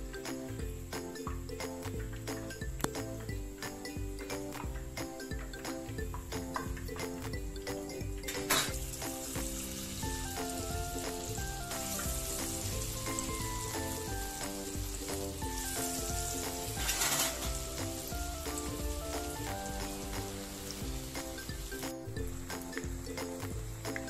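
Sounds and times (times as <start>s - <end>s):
background music: 0.0s - 24.0s
fritters sizzling in hot oil: 0.1s - 24.0s.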